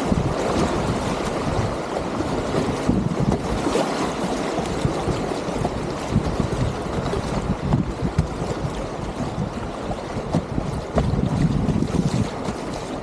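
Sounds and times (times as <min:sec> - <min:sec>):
low thumps of water: 0:00.0 - 0:13.0
whitewater rushing and splashing: 0:00.0 - 0:13.0
wind buffeting microphone: 0:00.0 - 0:13.0.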